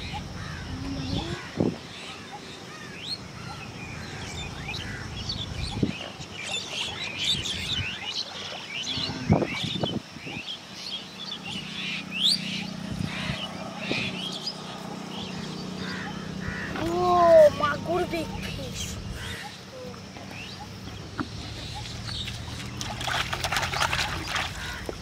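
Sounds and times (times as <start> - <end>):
small birds chirping: 0.0 - 25.0
steady low hum: 0.0 - 25.0.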